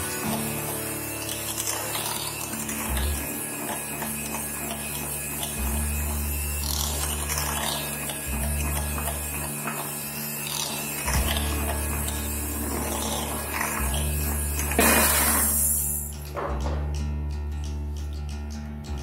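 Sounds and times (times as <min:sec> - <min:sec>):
electric hand mixer whisking cream: 0:00.0 - 0:16.2.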